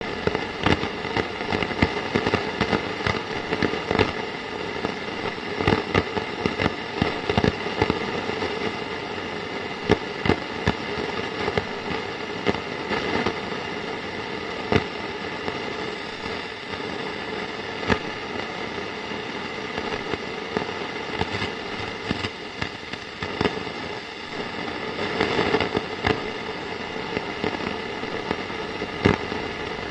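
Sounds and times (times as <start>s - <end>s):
crackles and pops: 0.0s - 29.9s
radio static hiss: 0.0s - 29.9s.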